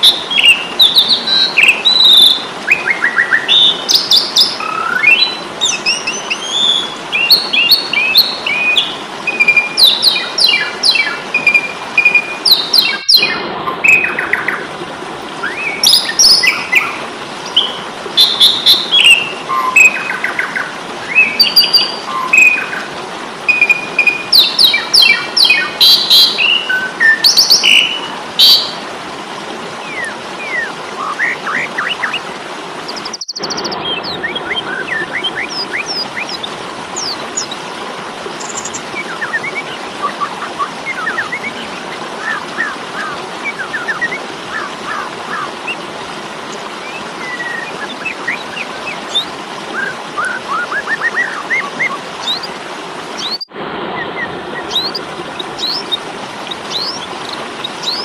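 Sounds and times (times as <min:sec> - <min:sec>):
birds chirping: 0:00.0 - 0:28.8, 0:29.8 - 0:45.9, 0:46.5 - 0:58.0.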